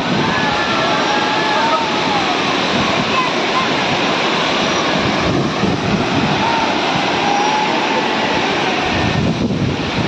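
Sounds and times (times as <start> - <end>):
waterfall roaring: 0.0 - 10.0
wind buffeting microphone: 0.0 - 10.0.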